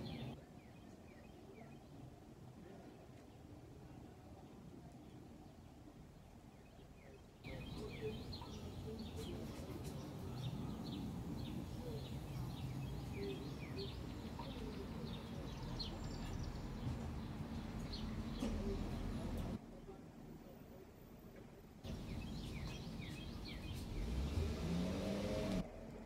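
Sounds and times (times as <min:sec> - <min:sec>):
small birds chirping: 0:00.0 - 0:19.6, 0:21.9 - 0:25.6
low outdoor background rumble: 0:03.5 - 0:26.0.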